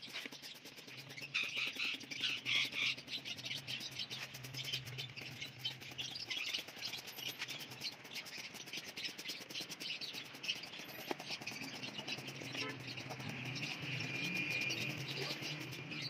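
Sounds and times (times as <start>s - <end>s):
garden sprayer hissing: 0.0s - 16.0s
small birds chirping: 0.0s - 16.0s.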